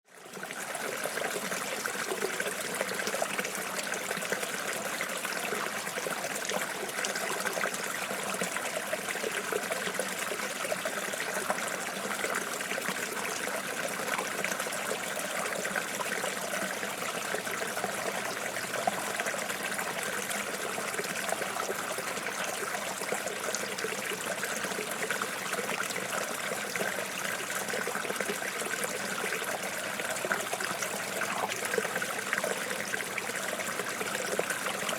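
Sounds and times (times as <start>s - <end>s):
running water trickling: 0.2s - 34.9s.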